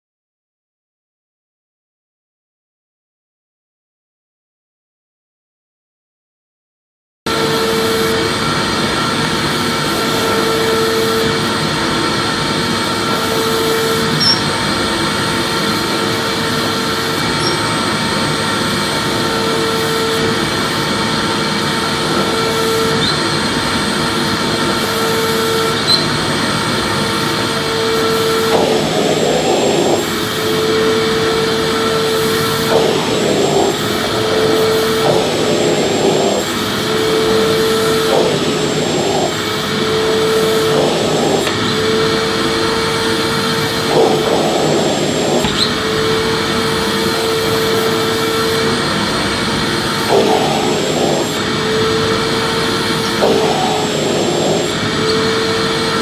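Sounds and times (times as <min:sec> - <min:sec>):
vacuum cleaner running: 0:07.3 - 0:56.0.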